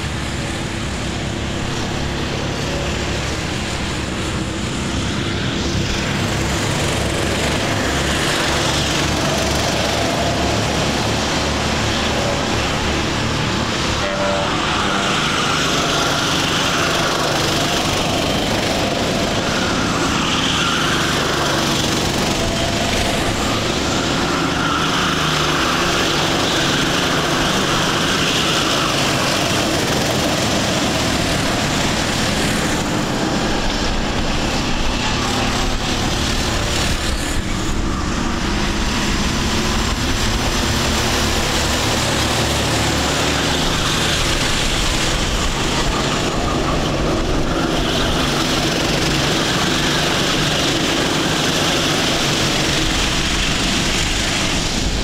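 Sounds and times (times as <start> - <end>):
racing kart engines: 0.0 - 55.0.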